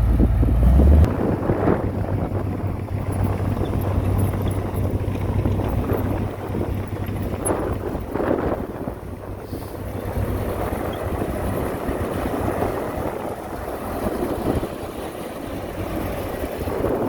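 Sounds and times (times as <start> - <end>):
diesel machinery running: 0.0 - 17.0
wind on microphone: 0.0 - 17.0.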